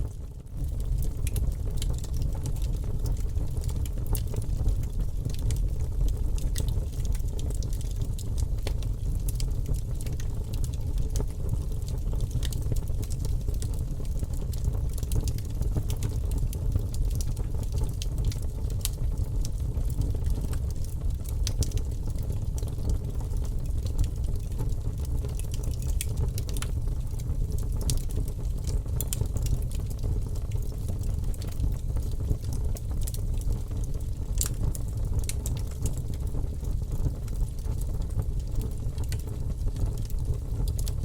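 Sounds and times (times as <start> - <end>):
low fire rumble: 0.0 - 41.0
wood fire crackling and popping: 0.0 - 41.0.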